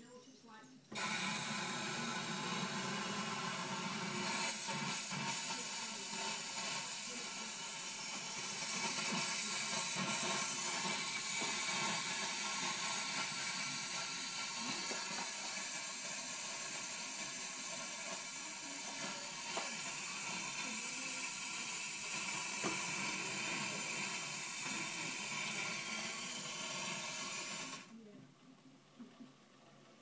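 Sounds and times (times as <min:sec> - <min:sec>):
espresso machine steam hissing: 0:01.0 - 0:27.9.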